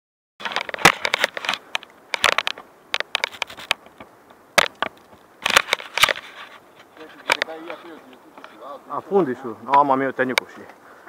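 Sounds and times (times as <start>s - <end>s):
bike tyres crackling on dirt: 0.4s - 11.0s.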